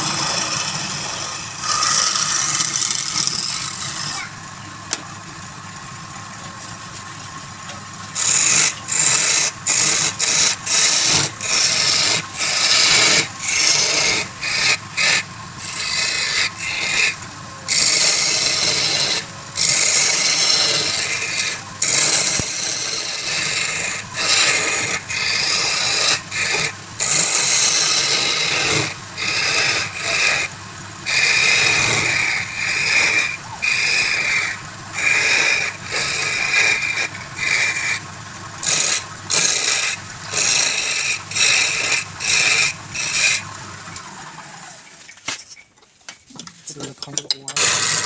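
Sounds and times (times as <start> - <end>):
lathe tool scraping wood: 0.0 - 4.3, 8.1 - 45.0, 46.8 - 48.0.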